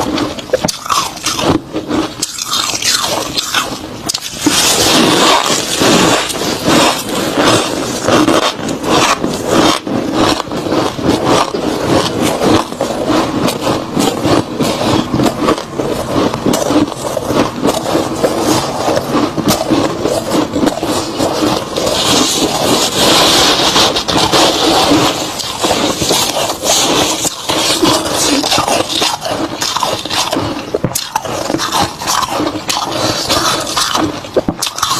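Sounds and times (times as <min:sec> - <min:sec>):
chewing crunchy frost: 0:00.0 - 0:34.9.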